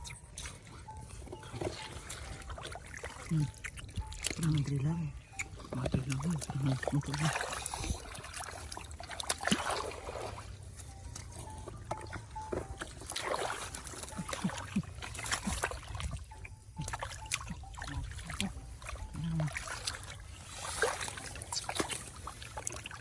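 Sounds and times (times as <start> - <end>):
shallow water trickling: 0.0 - 23.0
small splashes: 0.4 - 23.0.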